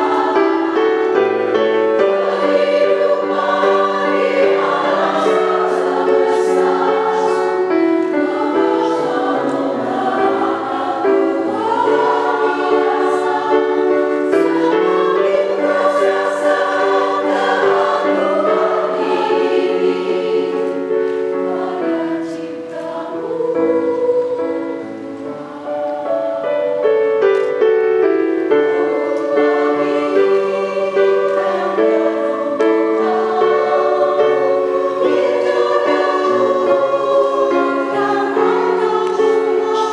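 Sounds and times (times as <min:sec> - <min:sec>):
women's choir singing: 0:00.0 - 0:39.9.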